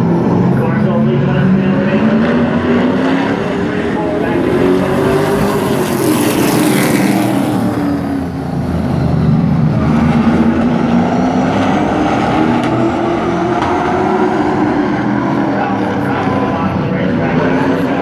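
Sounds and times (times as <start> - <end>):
race truck engine running hard: 0.0 - 18.0.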